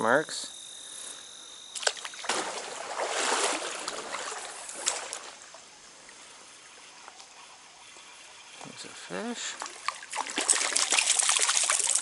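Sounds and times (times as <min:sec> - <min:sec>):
stream water splashing: 0:01.8 - 0:07.8, 0:08.4 - 0:12.0.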